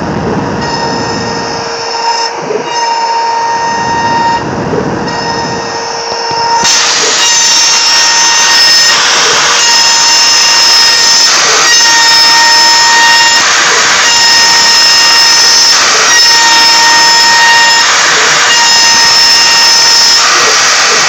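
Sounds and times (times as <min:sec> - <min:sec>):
high motor whine: 0:00.0 - 0:21.0.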